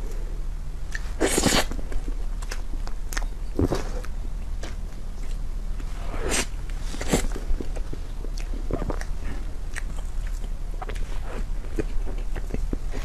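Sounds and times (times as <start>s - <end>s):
mouth eating cake: 0.9s - 13.0s.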